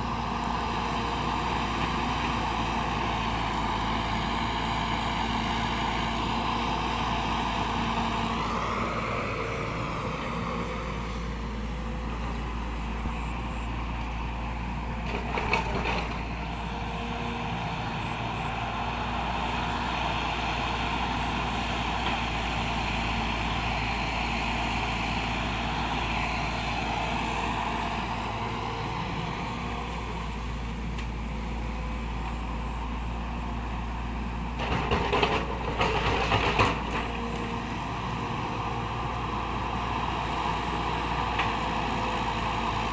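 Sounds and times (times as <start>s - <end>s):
excavator diesel engine: 0.0s - 42.9s.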